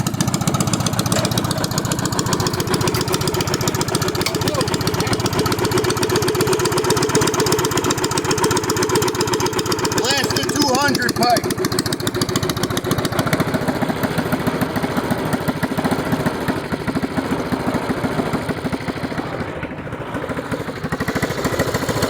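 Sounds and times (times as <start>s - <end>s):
engine revving through expansion pipe: 0.0s - 22.0s.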